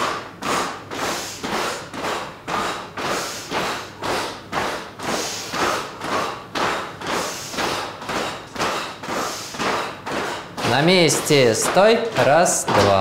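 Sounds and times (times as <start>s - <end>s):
short forced breaths: 0.0s - 11.6s
feet thumping on floor: 0.0s - 13.0s.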